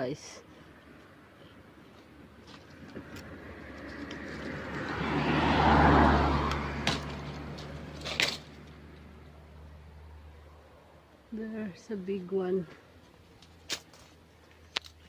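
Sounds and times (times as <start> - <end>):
vehicle passing by: 0.4 - 13.7.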